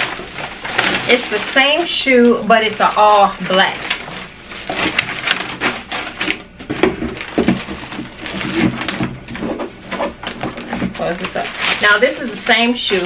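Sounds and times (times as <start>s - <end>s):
tissue paper and plastic rustling: 0.0s - 13.0s.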